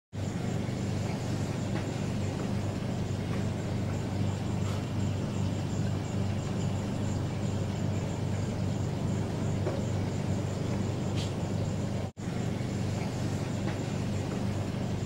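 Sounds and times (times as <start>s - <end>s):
aquarium pump hum: 0.2s - 15.0s.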